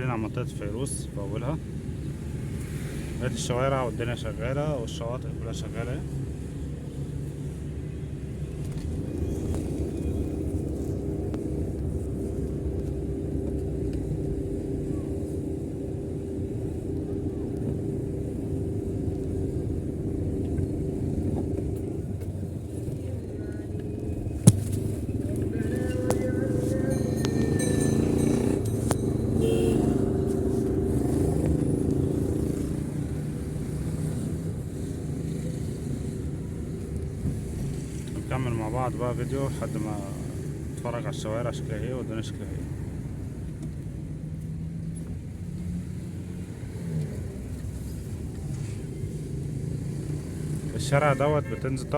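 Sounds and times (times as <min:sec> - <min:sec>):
vehicle engine rumbling: 0:00.0 - 0:51.9.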